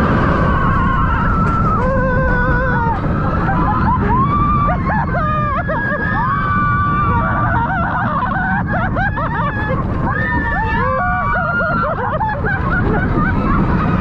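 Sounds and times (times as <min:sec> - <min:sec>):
riders screaming and shouting: 0:00.0 - 0:14.0
wind rushing on microphone: 0:00.0 - 0:14.0.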